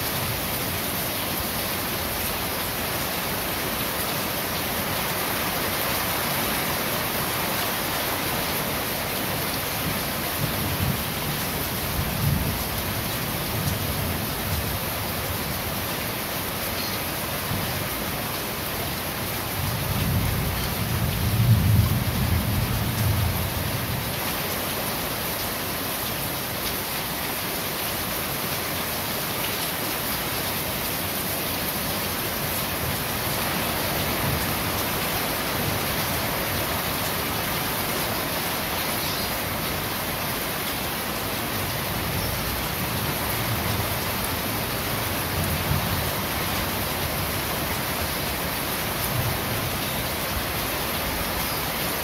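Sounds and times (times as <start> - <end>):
rain on a metal roof: 0.0 - 52.0.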